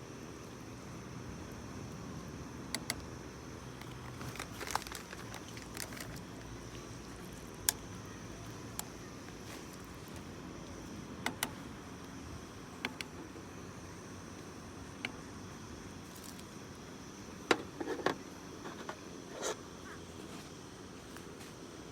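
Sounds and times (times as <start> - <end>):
low background noise: 0.0 - 21.9.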